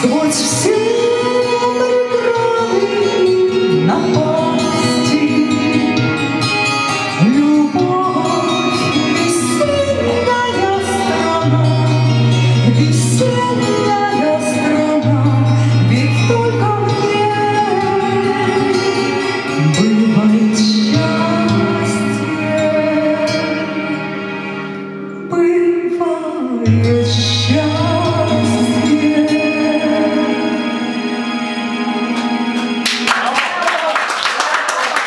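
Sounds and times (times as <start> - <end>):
woman singing into a microphone: 0.0 - 24.2, 25.1 - 30.9
backing track with bass notes: 0.0 - 33.4.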